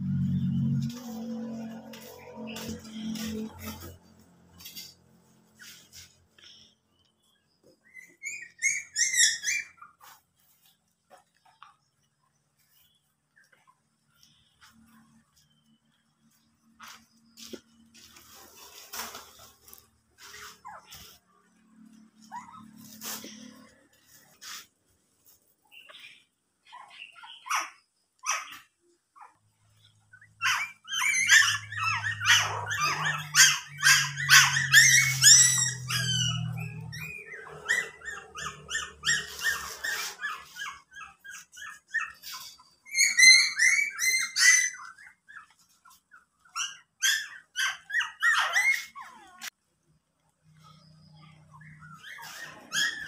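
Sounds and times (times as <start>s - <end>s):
puppies whining and yelping: 0.2s - 49.6s, 50.5s - 53.0s.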